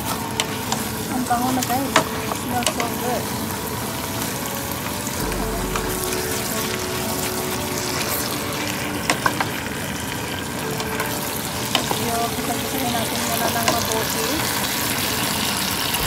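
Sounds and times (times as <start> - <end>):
chicken sizzling in pot: 0.0 - 16.0.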